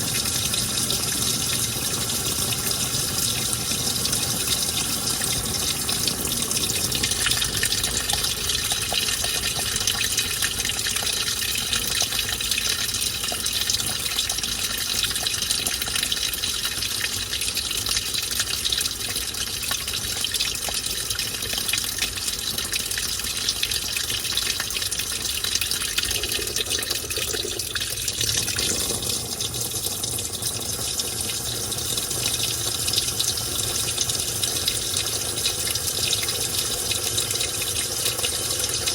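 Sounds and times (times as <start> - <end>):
water gushing into washing machine: 0.0 - 38.9.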